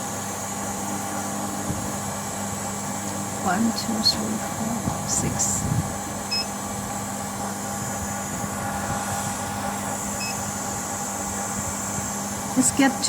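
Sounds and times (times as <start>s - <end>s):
machine humming and hissing: 0.0s - 13.0s.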